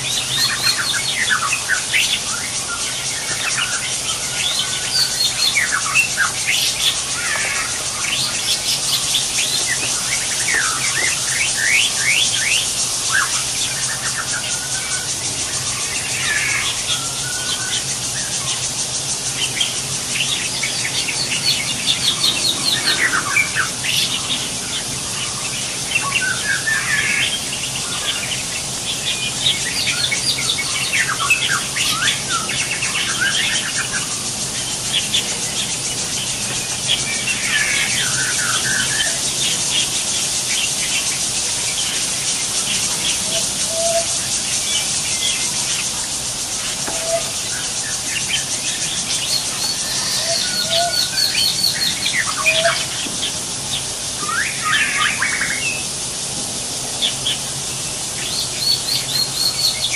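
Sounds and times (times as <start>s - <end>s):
steady high hiss: 0.0s - 59.9s
wild birds chirping: 0.0s - 59.9s.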